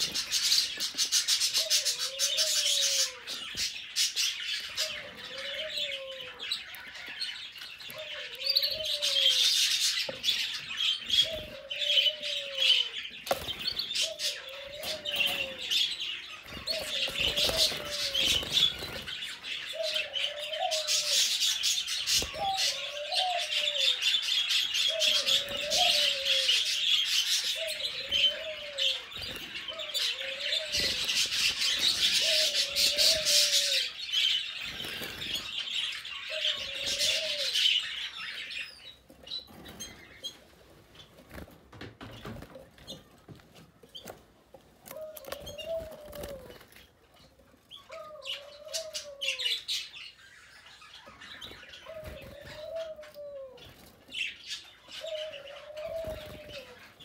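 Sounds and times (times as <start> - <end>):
canaries chirping: 0.0 - 57.0.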